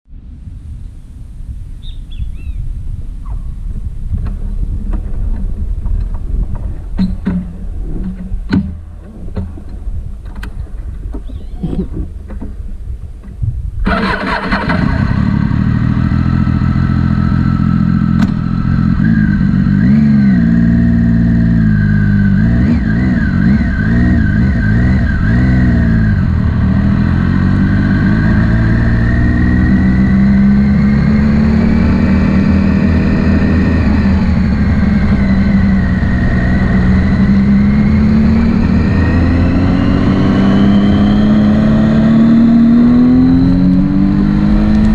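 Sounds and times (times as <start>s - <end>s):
motorcycle engine running: 1.8s - 44.9s.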